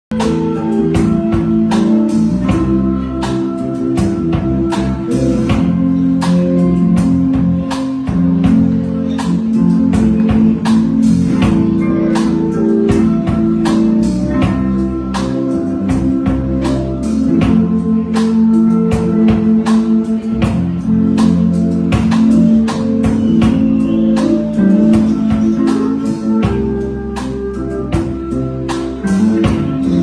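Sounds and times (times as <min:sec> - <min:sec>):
guitar music: 0:00.1 - 0:30.0
steady drum beat: 0:00.1 - 0:30.0.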